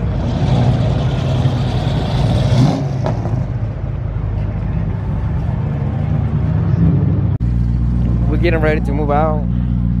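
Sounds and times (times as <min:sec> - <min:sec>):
car engines running: 0:00.0 - 0:10.0.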